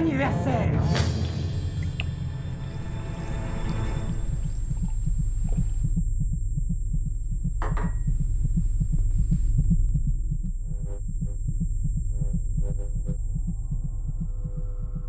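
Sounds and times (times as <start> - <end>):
low steady hum: 1.2 - 15.0
fast low thumping: 1.6 - 15.0.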